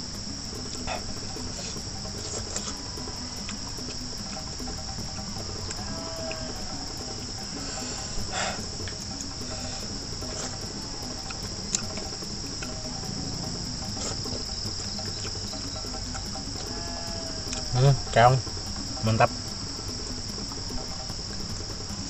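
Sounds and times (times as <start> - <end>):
crickets chirring: 0.0 - 22.0
faint clicks: 0.1 - 17.8
rustling of eating: 0.6 - 19.4.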